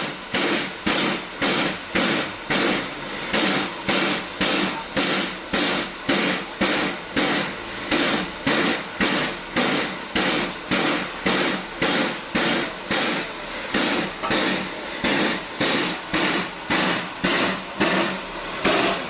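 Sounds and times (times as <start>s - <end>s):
steam locomotive exhaust chuffs: 0.0s - 19.0s.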